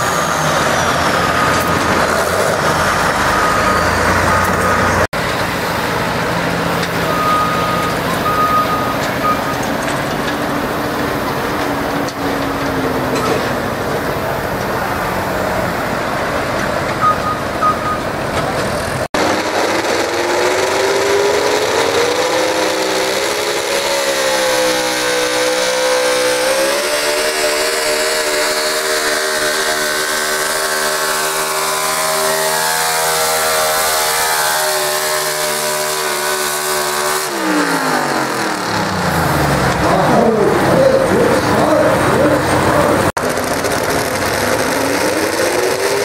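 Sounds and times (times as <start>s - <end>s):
truck engine at full throttle: 0.0s - 46.0s.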